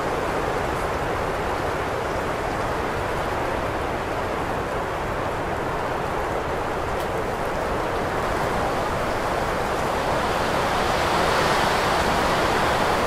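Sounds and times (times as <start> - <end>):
heavy wind blowing: 0.0 - 13.0.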